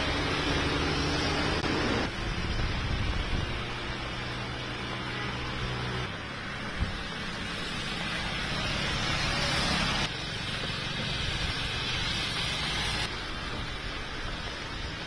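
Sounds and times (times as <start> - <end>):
heavy rain hiss: 0.0 - 15.0
vehicles on wet road: 0.0 - 15.0.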